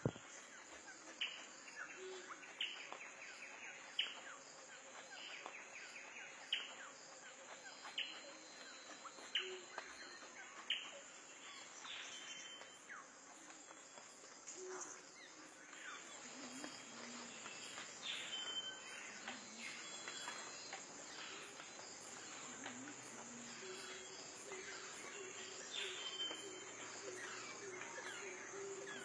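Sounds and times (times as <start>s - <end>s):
insect drone: 0.0s - 29.0s.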